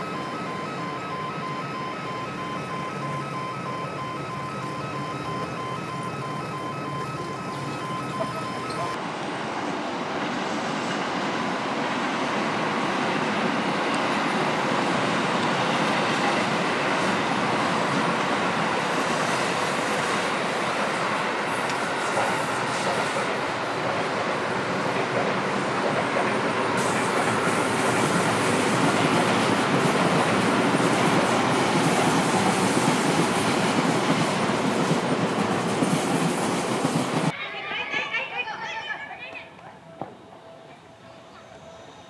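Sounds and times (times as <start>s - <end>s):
train wheels rolling on track: 0.0s - 42.0s.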